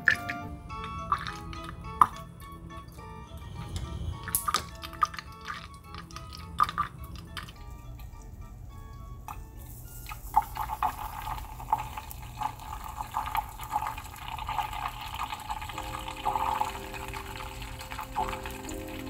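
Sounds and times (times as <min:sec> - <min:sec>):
liquid pouring into bowl: 0:00.0 - 0:08.4, 0:09.4 - 0:19.0
light background music: 0:00.0 - 0:13.9, 0:14.8 - 0:19.0.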